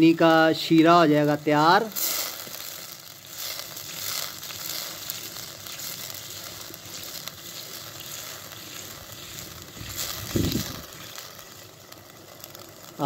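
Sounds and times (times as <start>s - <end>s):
syrup sizzling and bubbling: 0.0s - 13.0s.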